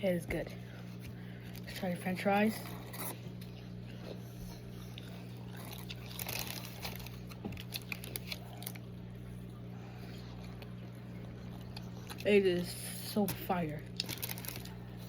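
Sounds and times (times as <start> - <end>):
steady low hum: 0.0 - 15.0
person chewing crunchy fries: 2.5 - 15.0.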